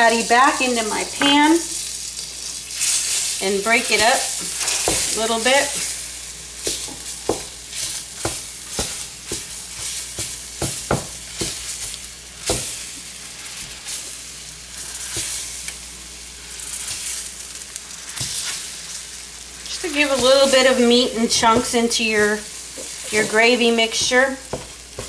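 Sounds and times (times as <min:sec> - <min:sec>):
gravy sizzling in a frying pan: 0:00.0 - 0:25.0.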